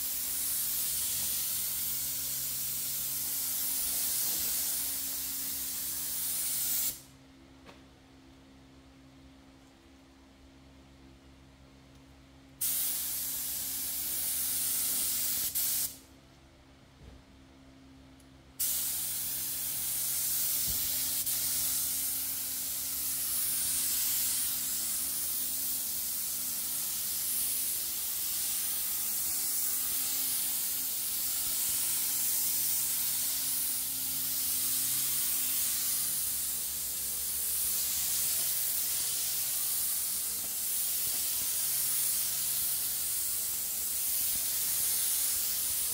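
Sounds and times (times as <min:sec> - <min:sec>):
paint spray gun hissing: 0:00.0 - 0:07.1, 0:12.6 - 0:16.0, 0:18.6 - 0:45.9.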